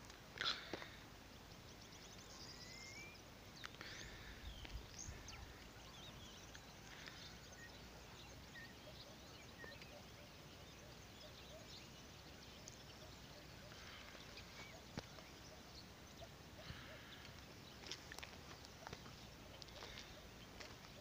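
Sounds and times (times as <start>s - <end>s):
faint birdsong: 0.0s - 21.0s
low steady hiss: 0.0s - 21.0s.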